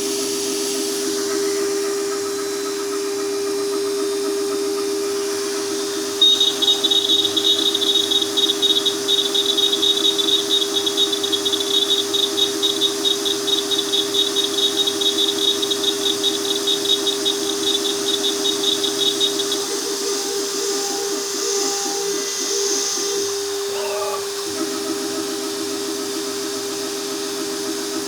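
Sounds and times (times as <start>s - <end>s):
router spindle whine: 0.0s - 28.0s.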